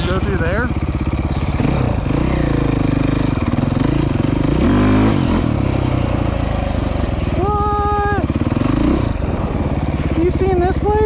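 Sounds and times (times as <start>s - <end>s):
off-road vehicle engine revving: 0.0s - 11.0s
wind and riding noise: 0.0s - 11.0s.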